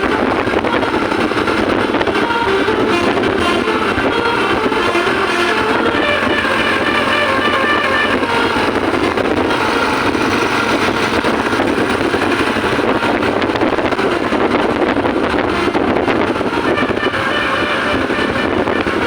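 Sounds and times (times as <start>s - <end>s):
bus engine running: 0.0s - 19.0s
multi-tone bus horn: 0.0s - 19.0s
wind noise: 0.0s - 19.0s.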